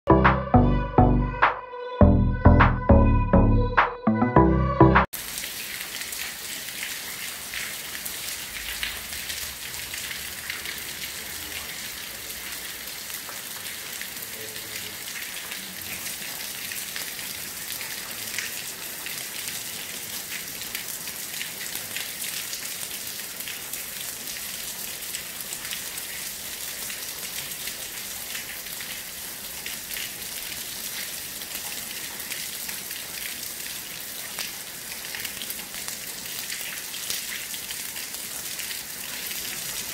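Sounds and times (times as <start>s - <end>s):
heavy rain falling: 5.1s - 39.9s.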